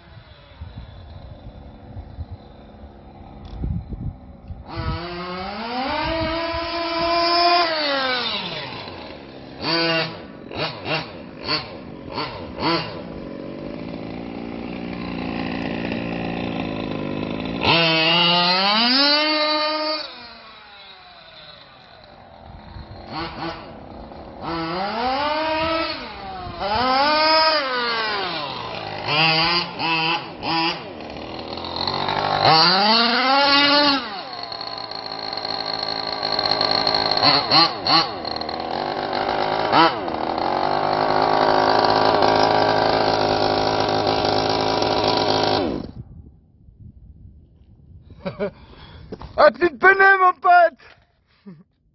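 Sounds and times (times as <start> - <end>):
two-stroke engine revving: 0.0 - 46.0.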